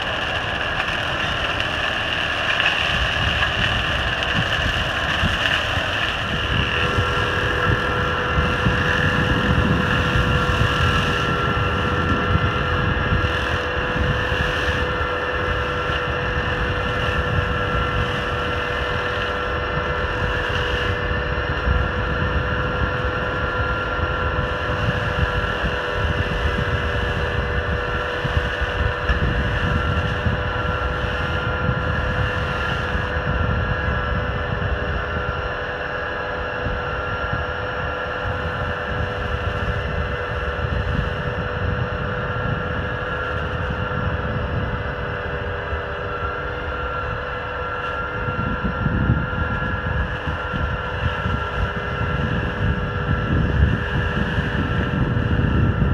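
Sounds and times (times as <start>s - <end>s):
tractor engine and hedge trimmer: 0.0s - 55.9s
wind on microphone: 0.0s - 55.9s.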